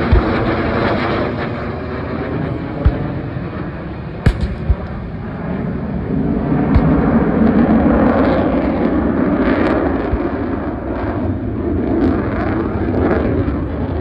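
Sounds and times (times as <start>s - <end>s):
airplane flying low overhead: 0.0s - 14.0s.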